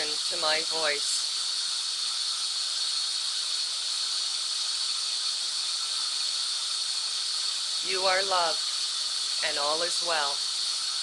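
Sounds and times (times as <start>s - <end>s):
white noise hiss: 0.0s - 11.0s.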